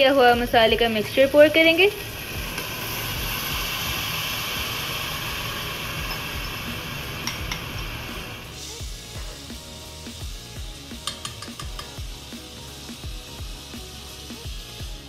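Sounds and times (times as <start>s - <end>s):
sauce sizzling in hot pan: 0.0s - 15.0s.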